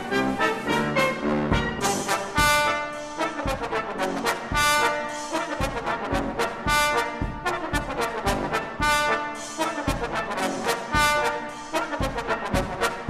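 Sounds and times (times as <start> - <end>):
brass music with steady beat: 0.0 - 13.0.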